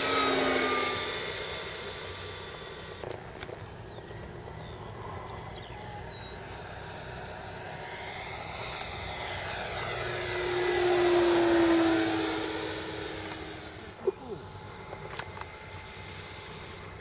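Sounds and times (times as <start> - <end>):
model plane motor whining: 0.0 - 17.0.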